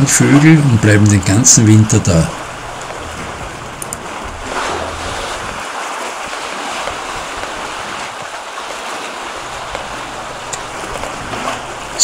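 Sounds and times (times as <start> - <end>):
sea surf washing: 0.0 - 12.0.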